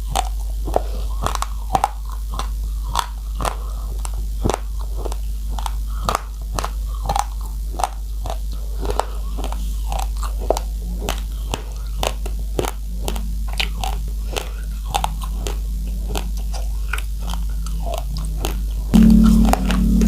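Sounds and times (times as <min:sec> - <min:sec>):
rice grains crunching: 0:00.0 - 0:20.0
steady low hum: 0:00.0 - 0:20.0.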